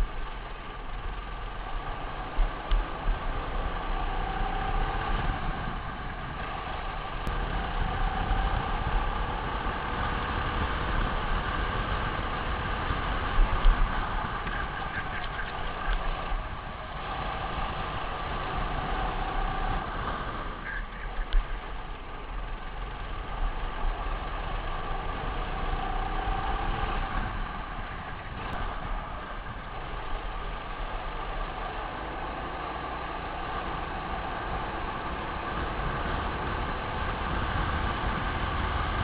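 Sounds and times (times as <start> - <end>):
kart engine revving: 1.0 - 39.0.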